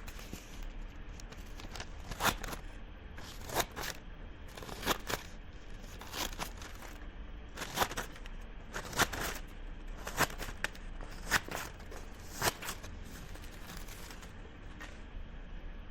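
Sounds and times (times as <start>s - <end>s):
paper rustling: 0.0s - 2.6s, 3.2s - 7.0s, 7.6s - 9.4s, 10.0s - 15.0s
scissors cutting paper: 0.0s - 2.6s, 3.2s - 14.9s.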